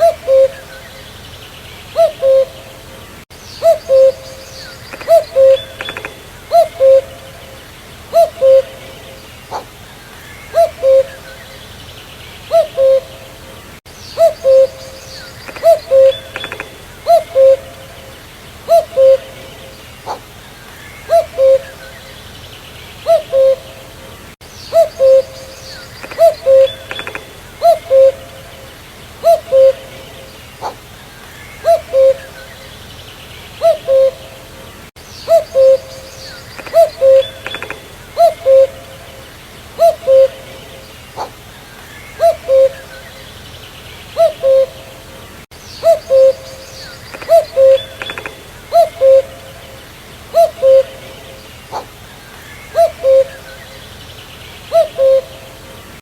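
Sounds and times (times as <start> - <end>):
cuckoo calling: 0.0 - 1.2, 1.9 - 11.8, 12.4 - 22.3, 23.0 - 32.9, 33.5 - 43.4, 44.1 - 54.0, 54.7 - 55.8.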